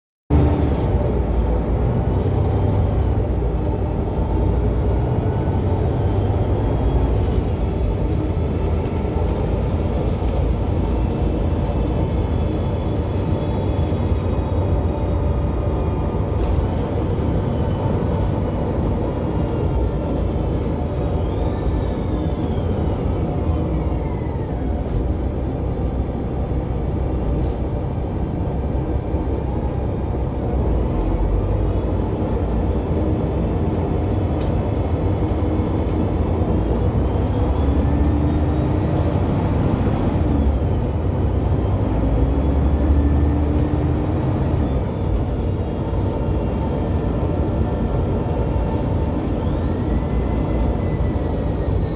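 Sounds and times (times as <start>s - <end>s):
bus engine rumbling: 0.2s - 51.9s
bus whine: 0.3s - 51.9s.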